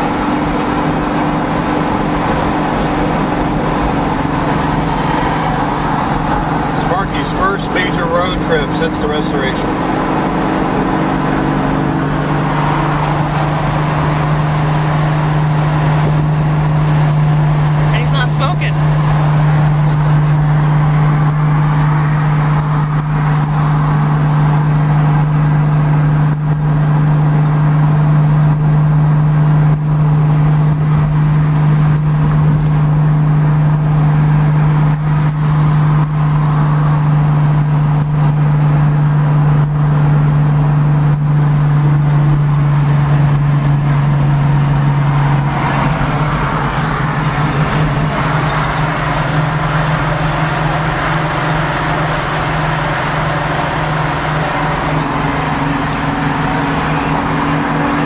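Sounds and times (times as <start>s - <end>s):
car engine drone: 0.0s - 58.0s.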